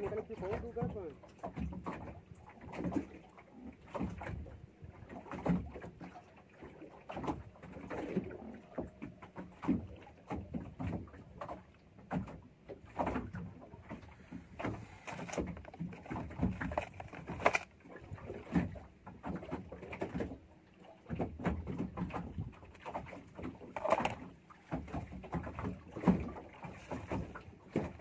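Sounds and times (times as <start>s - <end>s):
boat creaking: 0.0s - 3.2s, 7.0s - 28.0s
water lapping against boat: 0.0s - 28.0s.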